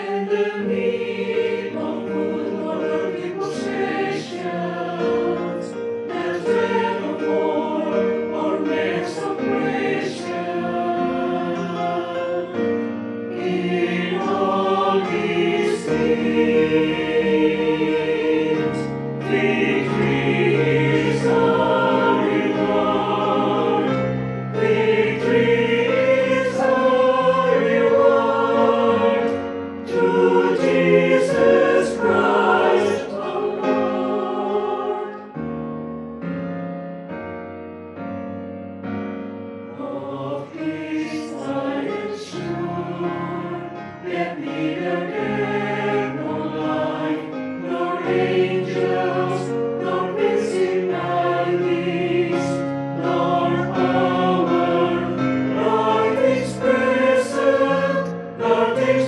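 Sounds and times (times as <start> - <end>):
mixed choir singing in harmony: 0.0 - 36.4, 39.2 - 59.0.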